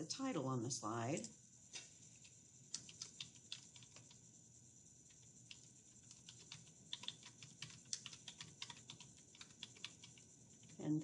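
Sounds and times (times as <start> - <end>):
faint keyboard typing: 1.1 - 4.3, 5.0 - 11.0.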